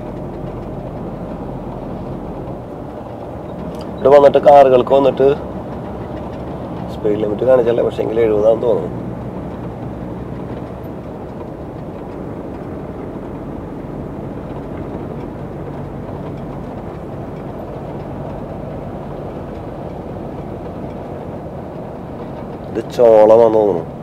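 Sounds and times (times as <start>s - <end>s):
diesel truck engine drone: 0.0s - 24.0s
tyre and road noise: 0.0s - 24.0s.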